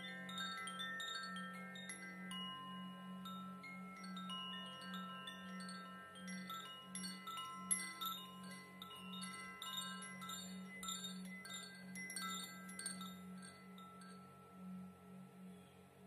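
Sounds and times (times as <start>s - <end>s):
wind chime tinkling: 0.0s - 15.9s.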